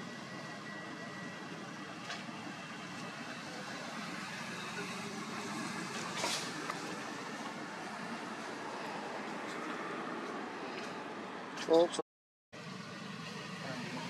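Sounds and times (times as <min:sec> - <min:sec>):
outdoor background hiss and rumble: 0:00.0 - 0:11.7, 0:12.6 - 0:14.0.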